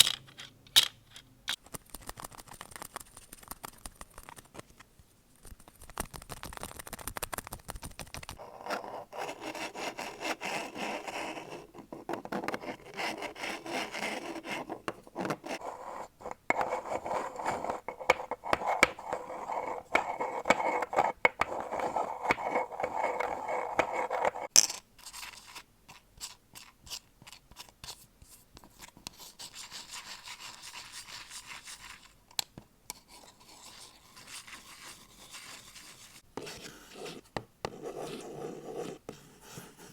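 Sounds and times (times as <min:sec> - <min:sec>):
scraping and scratching objects: 0:00.0 - 0:28.0, 0:33.0 - 0:39.9.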